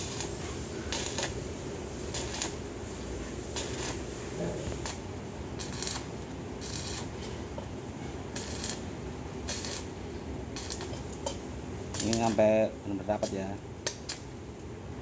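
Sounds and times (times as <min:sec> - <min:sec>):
welding hissing crackle: 0:00.0 - 0:14.7.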